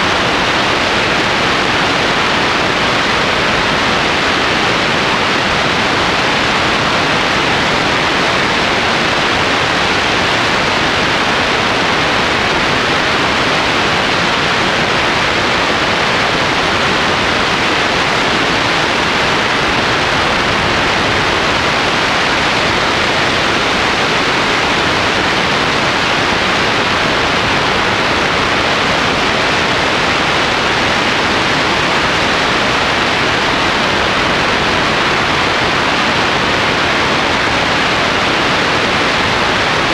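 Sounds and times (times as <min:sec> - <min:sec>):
loud wind on microphone: 0:00.0 - 0:39.9.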